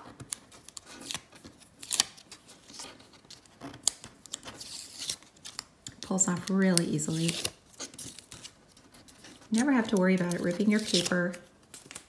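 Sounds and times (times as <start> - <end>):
masking tape peeling off paper: 0.0 - 12.0
paper rustling: 0.0 - 12.0.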